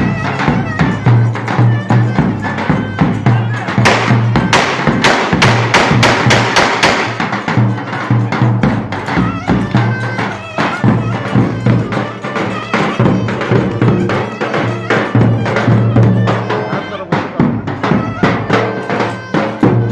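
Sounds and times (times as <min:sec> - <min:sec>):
drum strikes: 0:00.0 - 0:19.9
sustained melody: 0:00.0 - 0:19.9.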